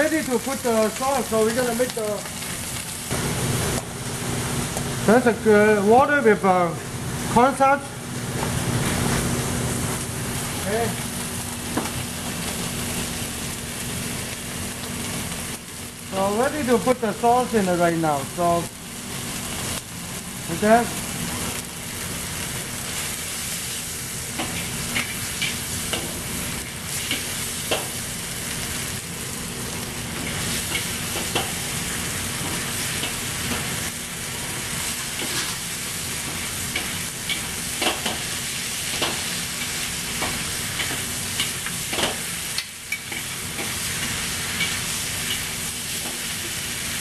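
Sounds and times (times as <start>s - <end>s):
food sizzling in a wok: 0.0s - 5.4s, 6.8s - 47.0s.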